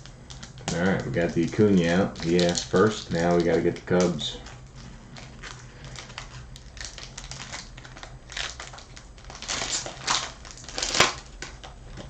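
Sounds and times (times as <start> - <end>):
trading cards rustling: 0.3 - 12.0.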